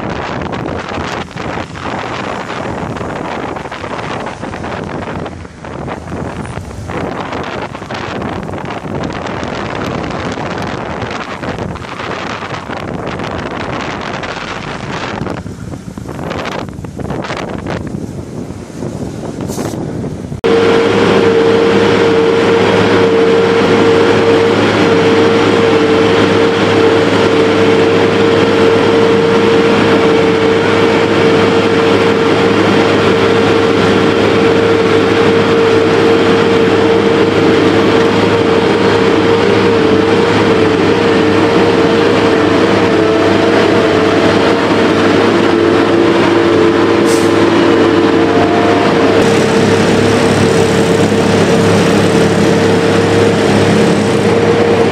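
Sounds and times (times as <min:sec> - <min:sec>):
diesel engine whine and rumble: 0:00.0 - 0:54.9.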